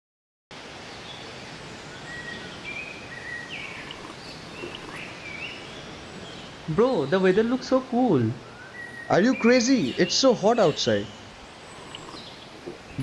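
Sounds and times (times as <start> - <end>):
background hiss: 0.6 - 13.0
small birds chirping: 0.8 - 13.0.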